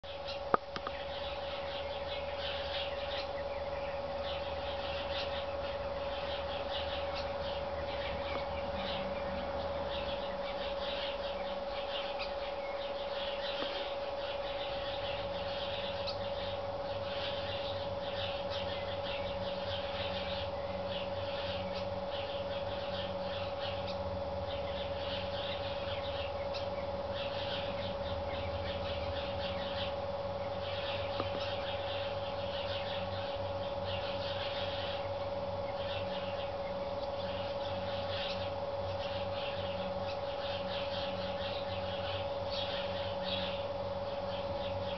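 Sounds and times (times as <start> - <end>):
blackbird alarm calls: 0.0 - 44.9
sparrows chirping in alarm: 0.0 - 44.9
steady hum: 0.0 - 44.9.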